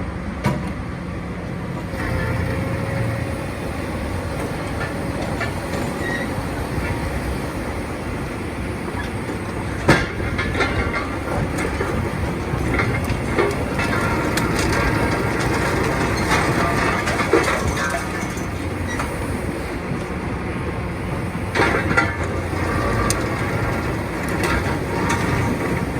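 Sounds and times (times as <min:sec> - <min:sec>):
excavator engine under load: 0:00.1 - 0:25.9.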